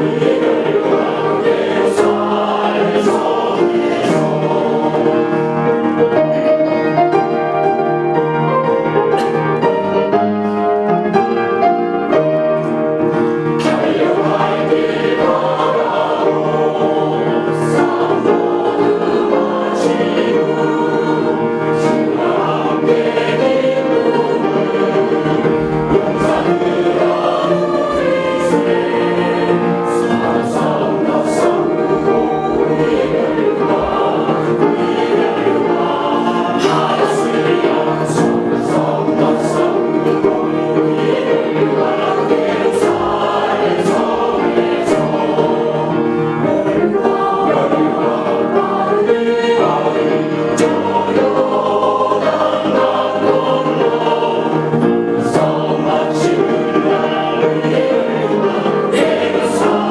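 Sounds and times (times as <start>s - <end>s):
congregation singing a hymn: 0.0s - 59.9s
musical accompaniment: 0.0s - 59.9s.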